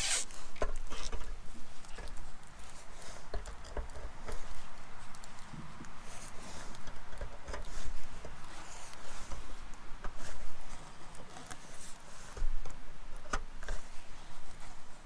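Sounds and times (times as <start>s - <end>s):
rain pattering on a roof: 0.4s - 15.0s.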